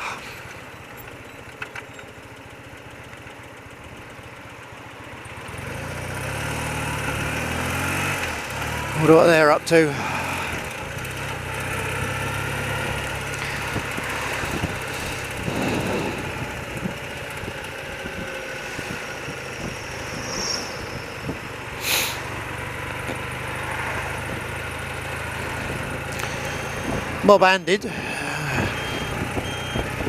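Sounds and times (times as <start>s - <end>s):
motorcycle engine idling: 0.0s - 7.5s, 8.3s - 20.2s, 21.0s - 27.2s.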